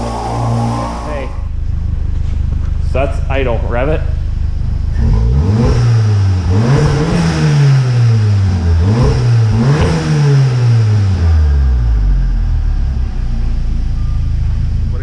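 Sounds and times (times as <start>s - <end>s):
car engine idling: 0.0s - 15.0s
car engine revving: 0.0s - 15.0s.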